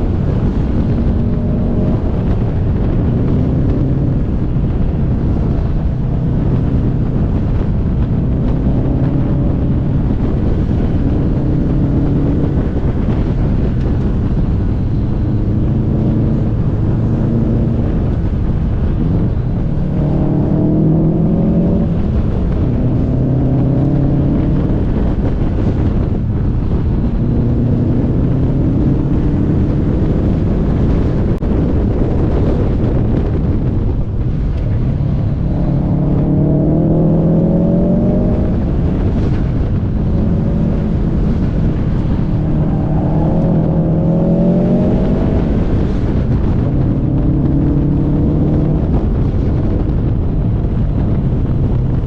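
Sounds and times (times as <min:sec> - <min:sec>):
car engine accelerating: 0:00.0 - 0:52.0
wind and road noise: 0:00.0 - 0:52.0.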